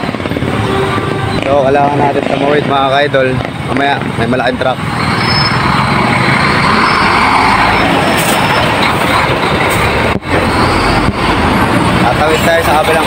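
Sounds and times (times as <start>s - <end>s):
dump truck passing: 0.0s - 13.0s.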